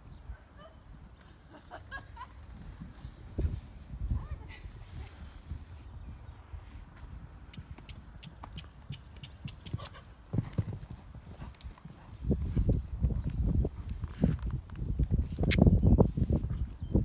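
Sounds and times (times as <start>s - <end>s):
hooves thudding on sand: 2.4s - 17.0s.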